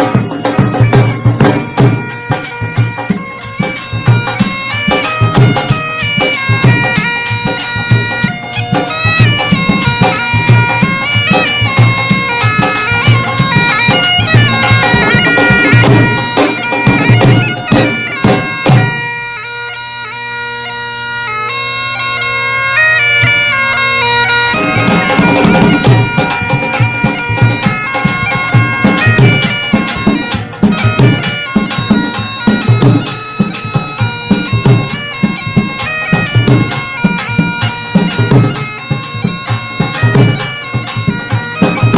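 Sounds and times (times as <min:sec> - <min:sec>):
drum beat: 0:00.0 - 0:19.1, 0:24.4 - 0:41.9
reedy wind instrument melody: 0:00.0 - 0:41.9.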